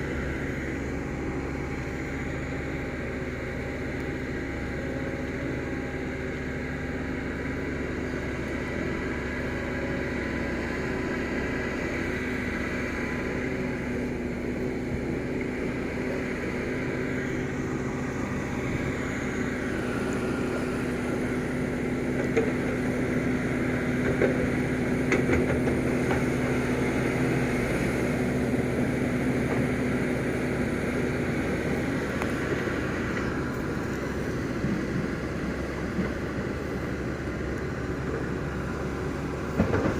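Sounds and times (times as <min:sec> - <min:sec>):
excavator running: 0:00.0 - 0:39.9.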